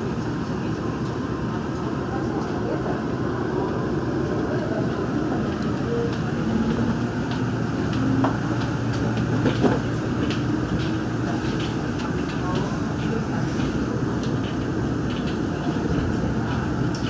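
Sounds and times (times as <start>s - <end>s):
train rumble and hiss: 0.0s - 17.0s.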